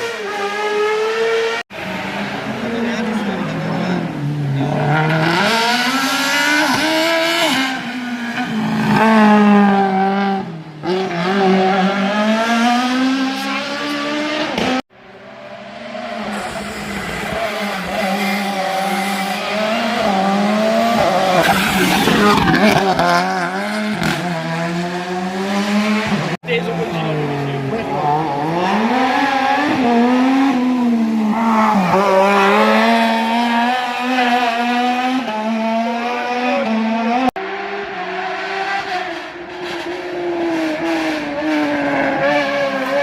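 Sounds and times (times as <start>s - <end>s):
race car engines revving: 0.0s - 43.0s.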